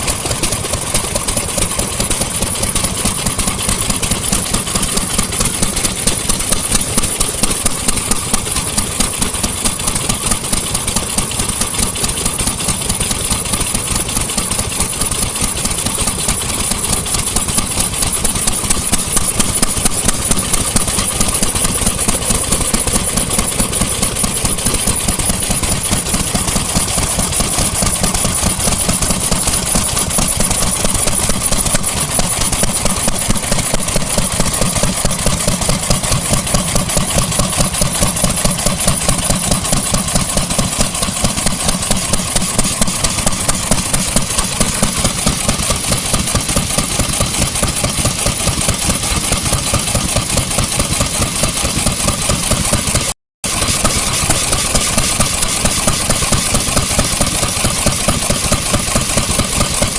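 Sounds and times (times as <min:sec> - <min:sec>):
vintage engine running: 0:00.0 - 0:59.9.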